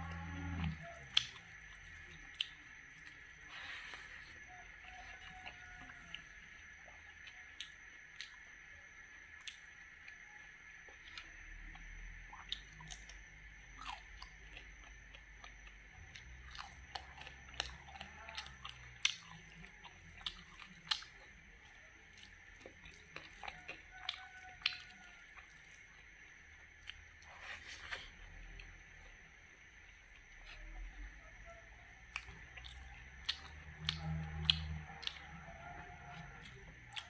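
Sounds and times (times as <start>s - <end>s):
crunchy chewing: 0.0s - 37.0s.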